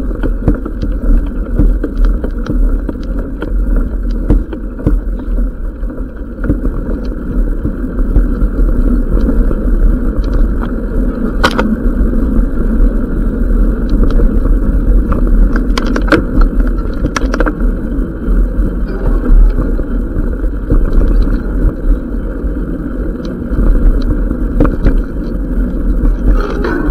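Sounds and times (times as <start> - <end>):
bike knocks and rattles: 0.0 - 26.9
tyres rumbling on dirt trail: 0.0 - 26.9.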